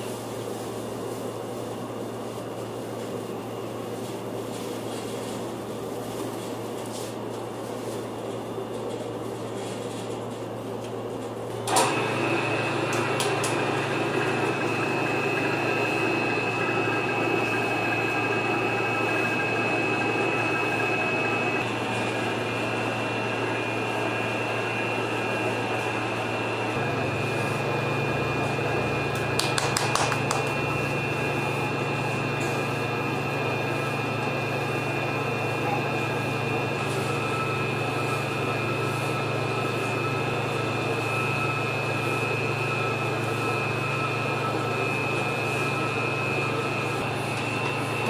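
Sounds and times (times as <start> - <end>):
dough mixer motor hum and whine: 0.0 - 48.0.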